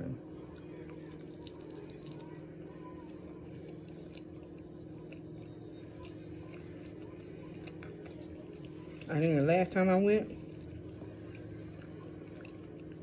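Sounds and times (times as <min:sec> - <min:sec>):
person chewing food: 0:00.4 - 0:09.5, 0:10.2 - 0:13.0.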